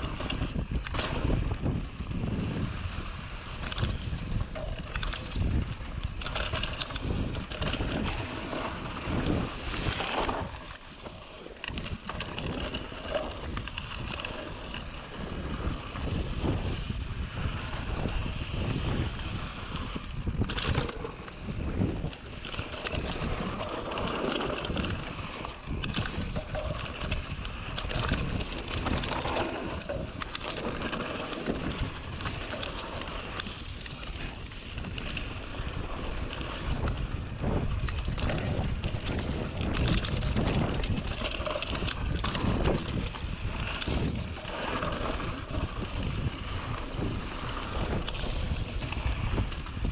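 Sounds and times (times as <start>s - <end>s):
bike rattling over bumps: 0.0s - 49.9s
tyres on dirt and rock: 0.0s - 49.9s
wind buffeting microphone: 0.0s - 49.9s.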